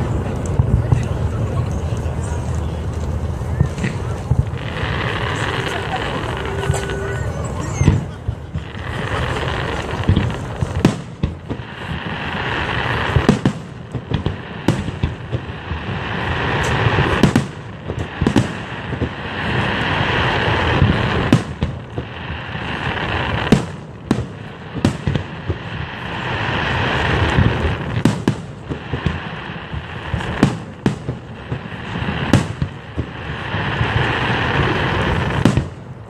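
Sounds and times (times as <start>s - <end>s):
continuous noisy wash: 0.0s - 36.0s
fireworks bangs: 0.0s - 36.0s.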